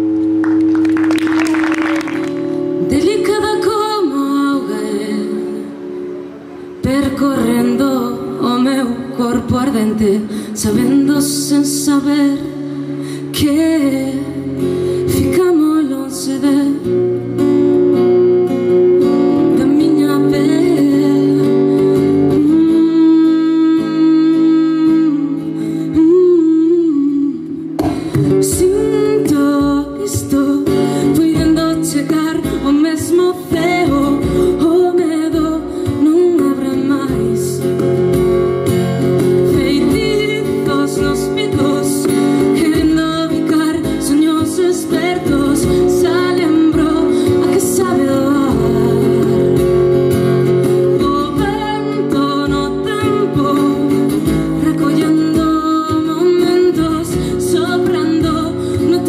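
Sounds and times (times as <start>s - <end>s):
strummed acoustic guitar: 0.0s - 59.0s
woman singing: 2.1s - 5.9s, 6.8s - 17.1s, 19.3s - 38.0s, 39.3s - 59.0s.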